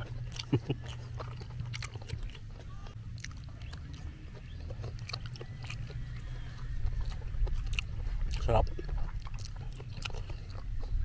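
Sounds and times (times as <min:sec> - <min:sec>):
low steady hum: 0:00.0 - 0:11.0
wet chewing and mouth clicks: 0:00.0 - 0:11.0.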